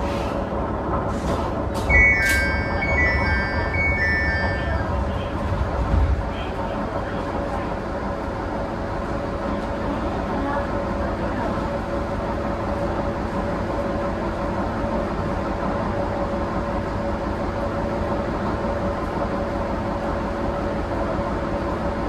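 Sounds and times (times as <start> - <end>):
diesel railcar engine drone: 0.0 - 22.0.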